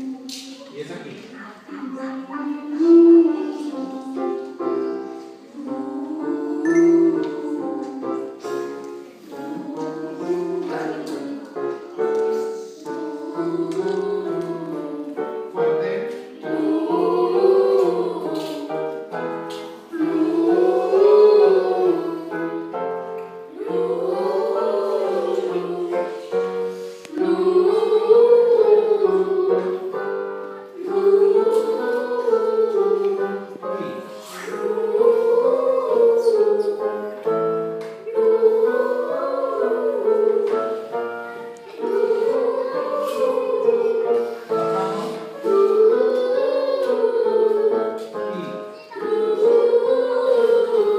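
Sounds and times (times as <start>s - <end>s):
choir singing vocal exercise: 0.0s - 1.1s, 1.9s - 50.9s
piano: 0.0s - 50.9s.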